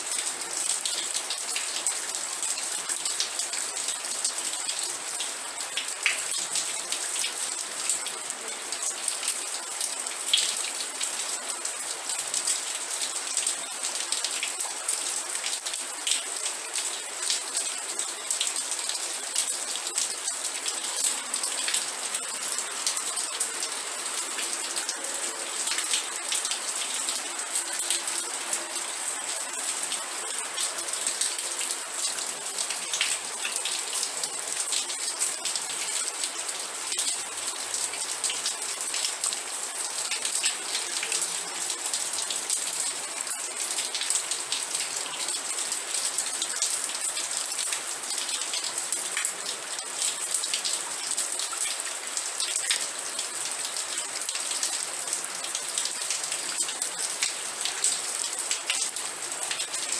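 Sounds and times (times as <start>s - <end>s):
rain ticking on a hard surface: 0.0s - 59.9s.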